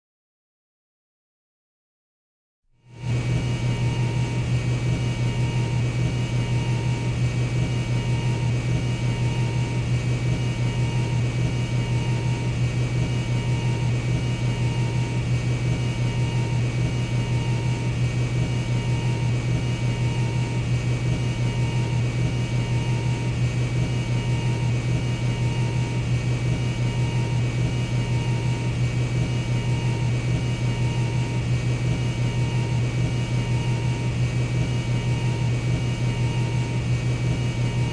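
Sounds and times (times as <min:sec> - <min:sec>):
jet cabin drone: 0:02.8 - 0:37.9.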